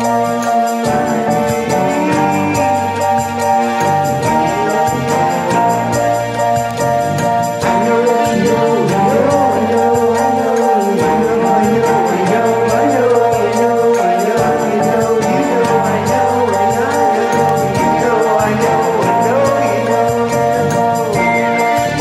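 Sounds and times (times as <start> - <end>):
person singing a melody: 0.0 - 6.8, 7.5 - 22.0
light high percussion beat: 0.0 - 22.0.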